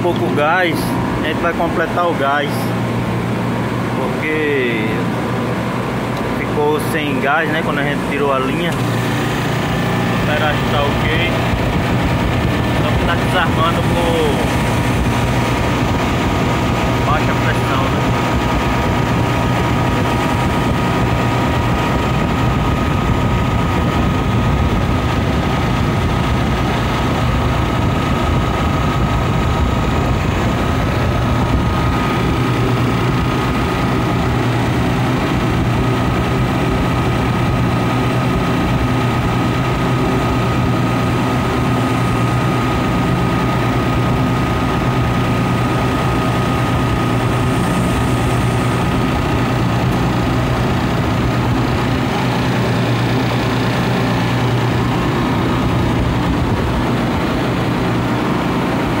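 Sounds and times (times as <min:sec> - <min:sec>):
compressor low hum: 0:00.0 - 0:59.0.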